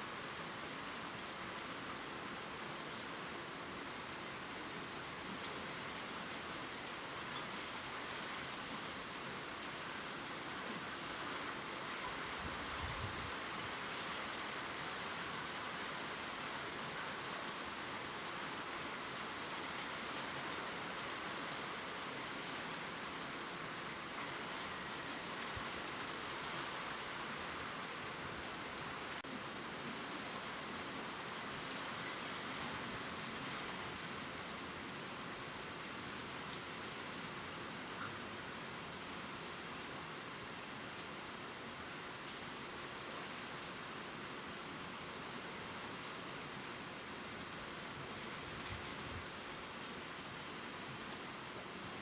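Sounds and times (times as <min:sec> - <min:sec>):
rain pattering on leaves: 0:00.1 - 0:52.0.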